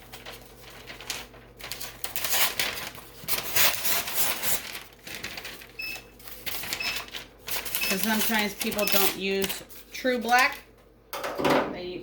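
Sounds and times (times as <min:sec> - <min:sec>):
rustling and clattering materials: 0:00.0 - 0:10.5.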